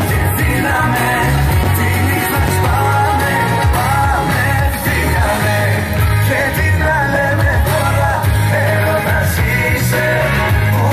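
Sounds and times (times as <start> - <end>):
song with singing over bass beat: 0.0 - 10.9.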